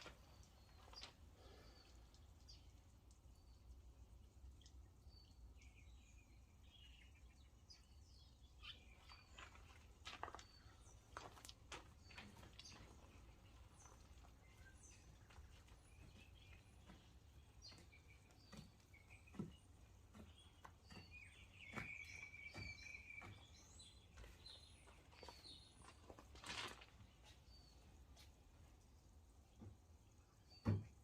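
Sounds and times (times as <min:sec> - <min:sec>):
faint bird chirps and calls: 0:00.0 - 0:28.8.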